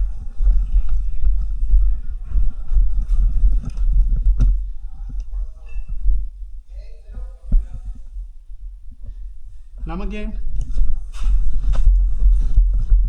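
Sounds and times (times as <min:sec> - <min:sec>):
footsteps thumping: 0:00.0 - 0:13.0
handling rumble: 0:00.0 - 0:13.0.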